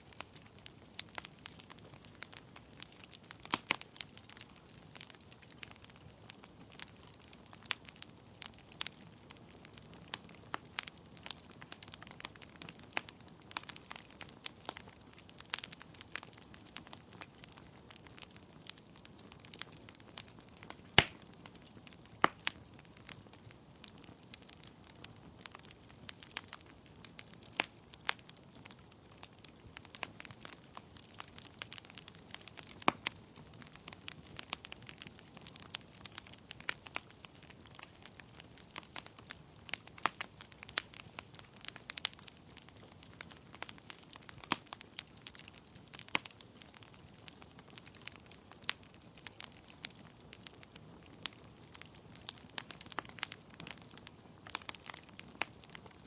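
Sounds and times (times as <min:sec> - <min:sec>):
faint steady hiss: 0:00.0 - 0:55.9
wood fire crackling: 0:00.0 - 0:56.0.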